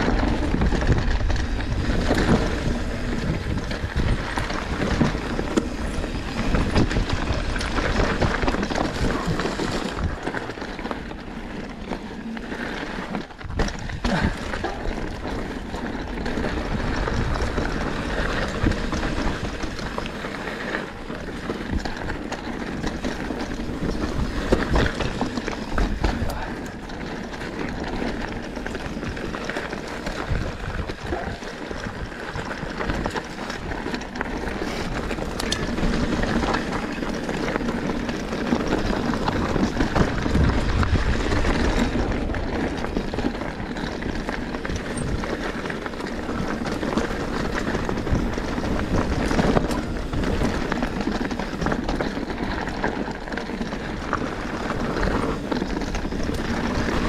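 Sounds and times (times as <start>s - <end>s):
bike knocking and rattling: 0.0s - 57.0s
tyres rumbling over dirt and rocks: 0.0s - 57.0s.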